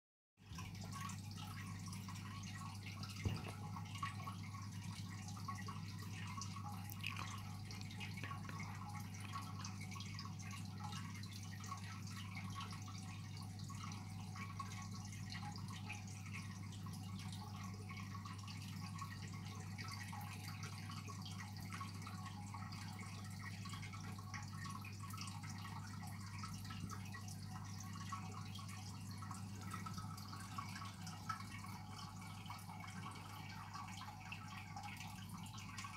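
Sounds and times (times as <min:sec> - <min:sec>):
aquarium equipment hum: 0:00.4 - 0:35.9
water dripping: 0:00.4 - 0:35.9
water trickling: 0:00.4 - 0:35.9.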